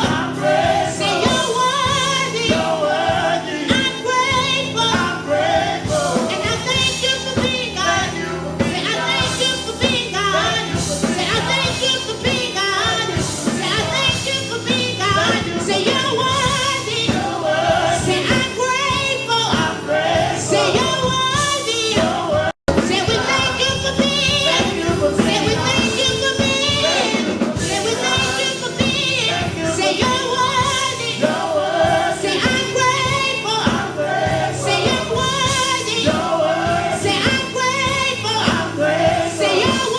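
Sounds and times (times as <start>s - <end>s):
gospel choir singing: 0.0s - 39.9s
instrumental backing: 0.0s - 39.9s.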